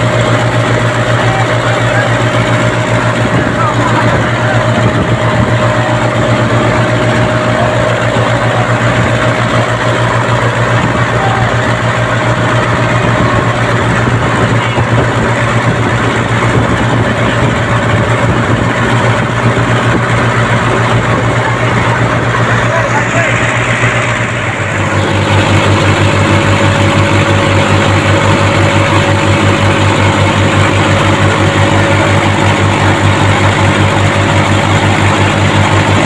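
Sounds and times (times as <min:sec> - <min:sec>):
diesel boat engine throbbing: 0:00.0 - 0:36.0.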